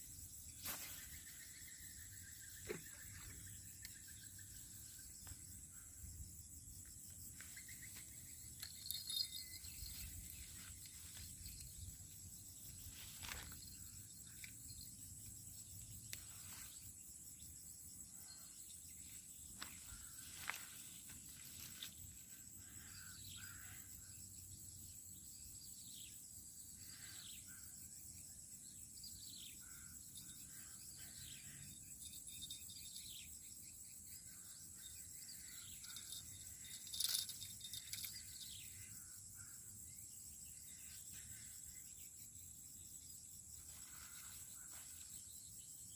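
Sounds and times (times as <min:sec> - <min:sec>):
insect drone: 0:00.0 - 0:45.9.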